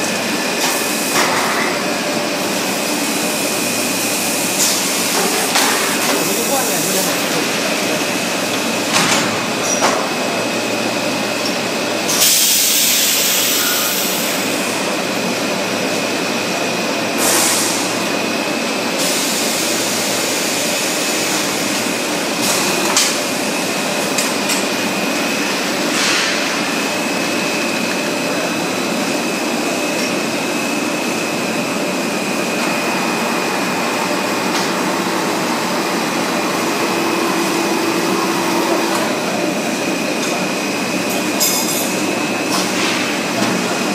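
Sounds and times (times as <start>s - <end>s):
machine noise with high whine: 0.0s - 43.9s.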